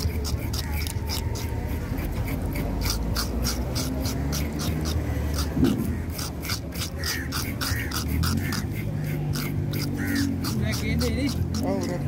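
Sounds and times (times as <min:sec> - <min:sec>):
scaler scraping fish scales: 0:00.0 - 0:12.0.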